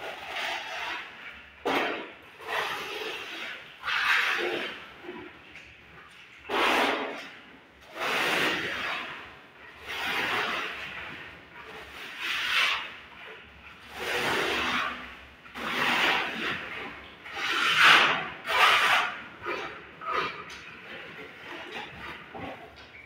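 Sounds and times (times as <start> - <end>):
trowel scraping cement render: 0.0 - 5.6, 6.4 - 23.0.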